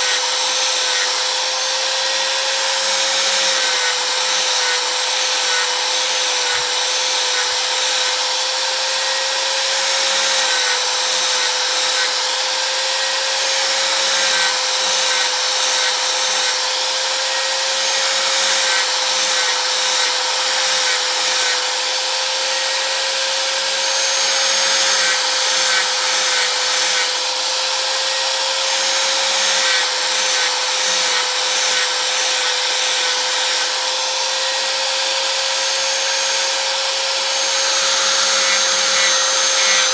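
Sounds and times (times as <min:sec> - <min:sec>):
gritty sanding hiss on wood: 0:00.0 - 0:39.9
power sander motor whine: 0:00.0 - 0:39.9.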